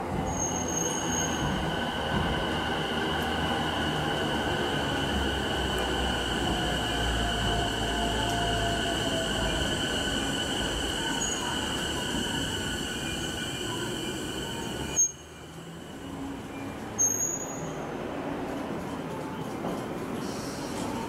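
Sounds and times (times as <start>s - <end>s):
electric train high whine: 0.0s - 17.3s.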